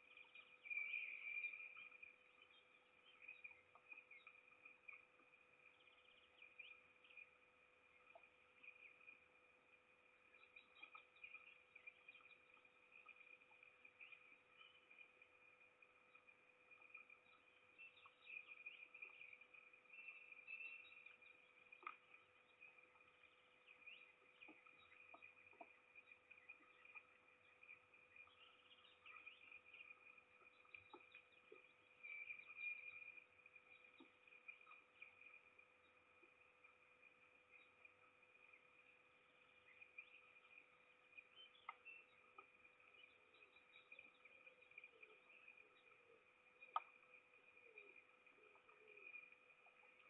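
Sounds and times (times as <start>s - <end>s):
soft ticks: 0.0s - 9.3s, 10.2s - 38.8s, 39.5s - 50.0s
faint steady hum: 0.0s - 50.0s
faint whine: 0.0s - 50.0s
songbirds chirping and twittering: 0.0s - 50.0s.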